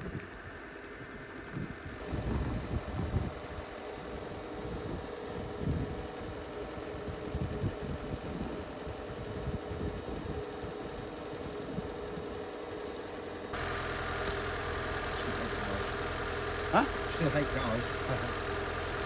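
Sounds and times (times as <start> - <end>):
car engine idling: 2.0 - 19.0.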